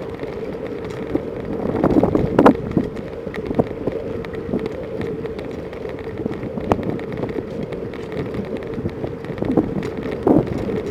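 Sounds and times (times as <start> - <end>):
bicycle rattles and knocks: 0.0 - 10.9
bicycle tyre noise: 0.0 - 10.9
wind noise: 0.0 - 10.9.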